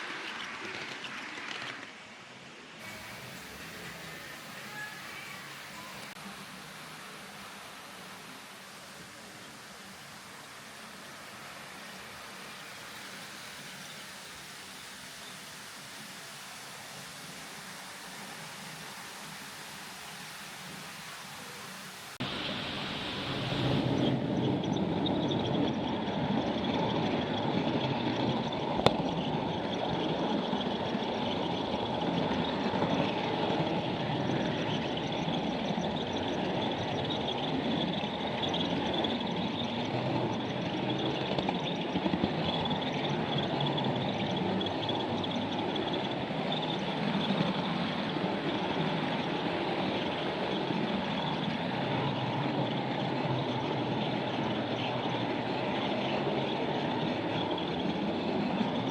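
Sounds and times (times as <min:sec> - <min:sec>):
model train rumbling on track: 0:00.0 - 0:16.1, 0:17.2 - 0:58.9.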